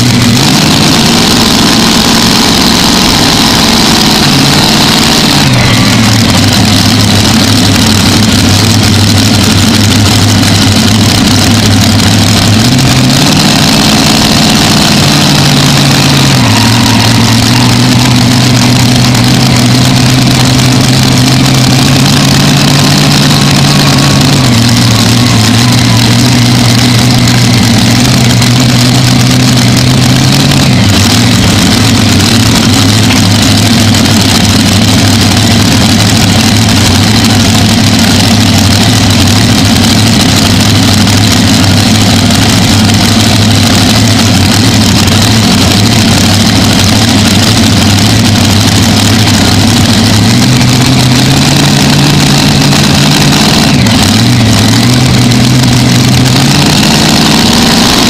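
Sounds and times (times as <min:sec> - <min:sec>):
tractor engine idling loudly: 0:00.0 - 0:58.0.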